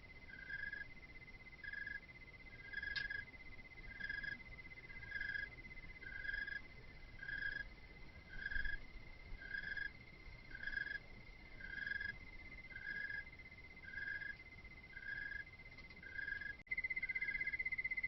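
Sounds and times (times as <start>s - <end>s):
insects trilling: 0.0s - 18.0s
low insect chirp: 0.0s - 18.0s.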